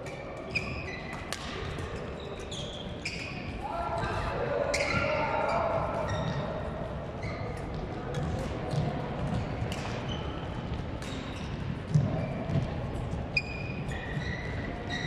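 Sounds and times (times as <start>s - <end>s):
sneakers squeaking on floor: 0.0s - 3.6s, 4.7s - 15.0s.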